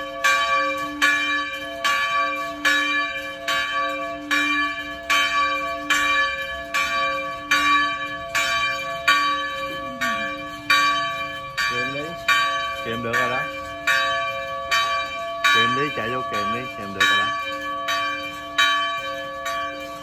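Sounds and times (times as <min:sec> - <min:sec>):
large church bell ringing: 0:00.0 - 0:20.0.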